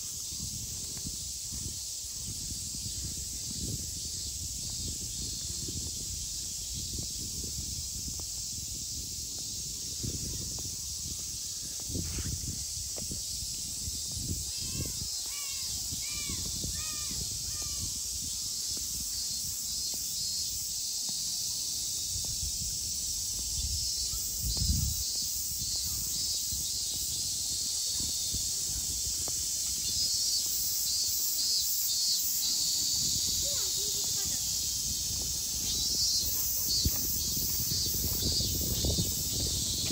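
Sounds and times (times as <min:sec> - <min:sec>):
insects hissing: 0:00.0 - 0:39.9.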